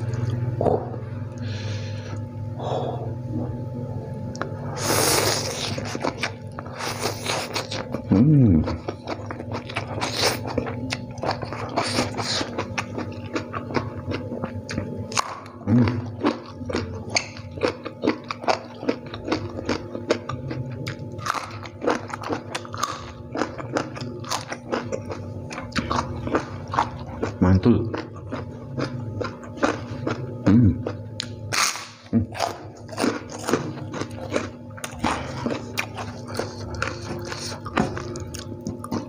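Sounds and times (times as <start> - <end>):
wet crunching and chewing: 4.3 - 39.0.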